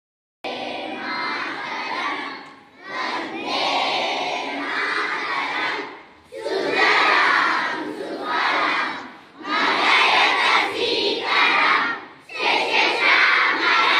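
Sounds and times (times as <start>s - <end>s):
children chanting in unison: 0.5s - 13.9s.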